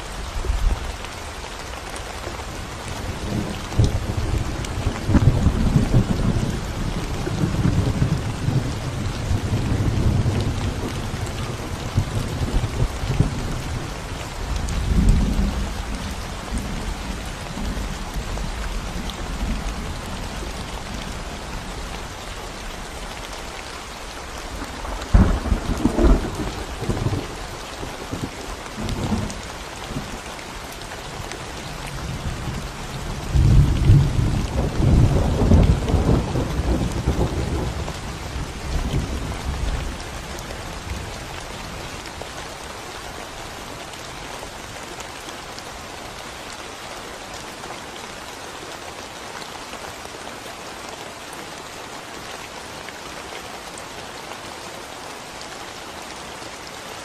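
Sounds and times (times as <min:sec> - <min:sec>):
rain on concrete road: 0:00.0 - 0:57.0.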